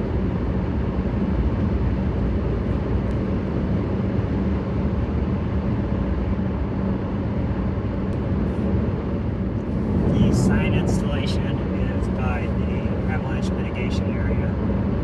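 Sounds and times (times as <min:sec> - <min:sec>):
car driving on highway: 0:00.0 - 0:15.0.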